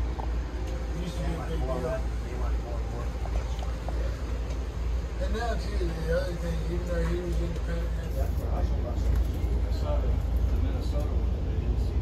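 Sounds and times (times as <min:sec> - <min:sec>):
passenger train car rumble: 0:00.0 - 0:12.0.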